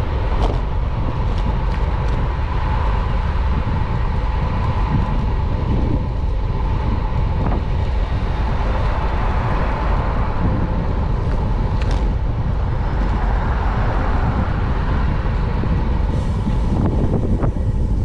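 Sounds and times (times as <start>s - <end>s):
traffic going by: 0.0s - 18.0s
wind rumble on microphone: 0.0s - 18.0s.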